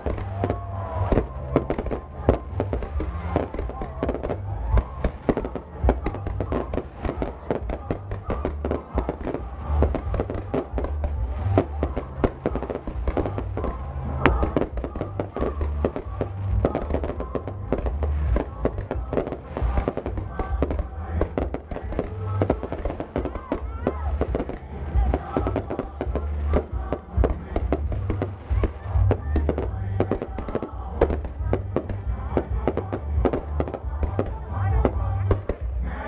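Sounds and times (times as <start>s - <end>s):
sharp firework crack: 0.0s - 35.8s
fireworks bangs and crackling: 0.0s - 36.0s.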